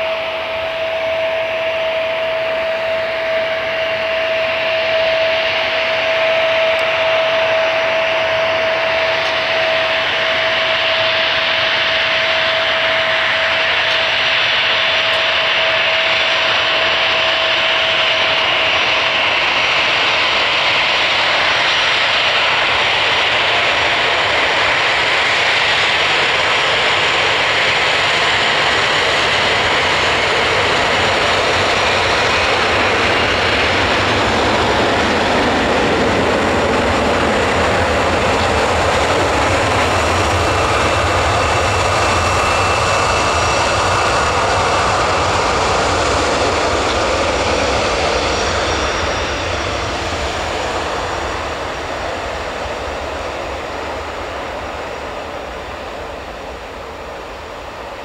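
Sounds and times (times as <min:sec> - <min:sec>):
deep jet engine rumble: 0:00.0 - 0:58.0
jet engine whine: 0:00.0 - 0:58.0.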